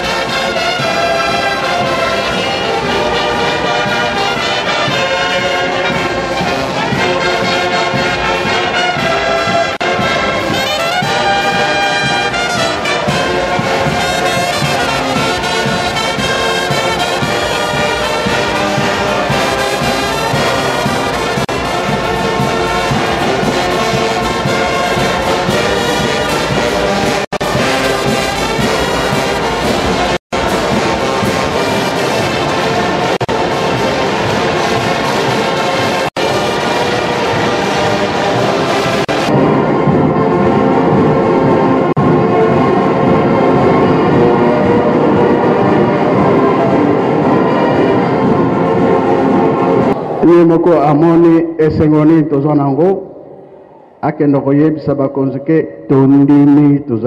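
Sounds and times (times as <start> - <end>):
brass band playing: 0.0 - 53.9.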